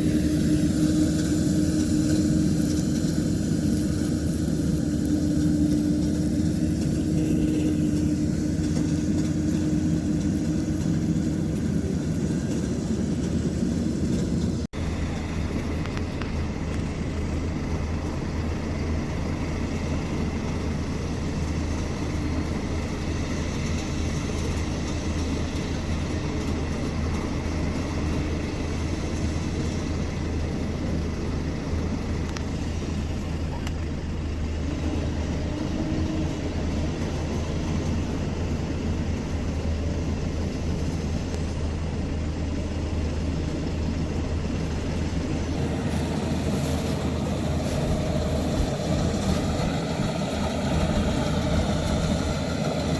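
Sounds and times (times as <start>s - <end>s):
combine harvester droning: 0.0s - 52.9s.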